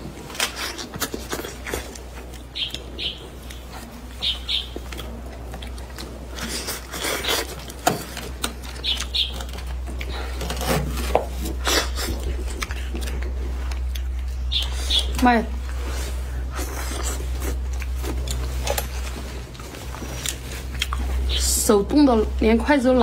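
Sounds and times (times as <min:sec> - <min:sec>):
wet sucking and chewing: 0:00.0 - 0:21.6
low steady hum: 0:00.0 - 0:23.0.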